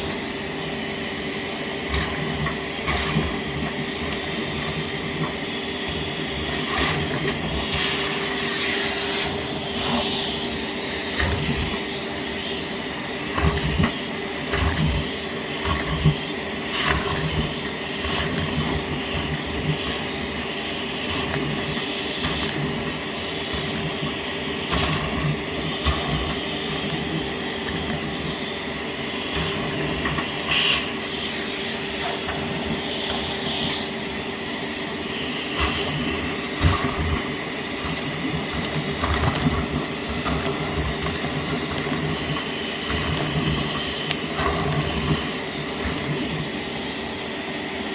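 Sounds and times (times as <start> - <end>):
wet dry vacuum humming: 0.0 - 47.9.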